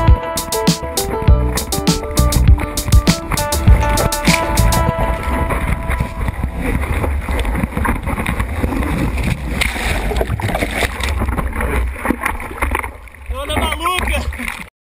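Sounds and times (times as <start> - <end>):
surf rushing and splashing: 0.0 - 14.7
water buffeting microphone: 0.0 - 14.7.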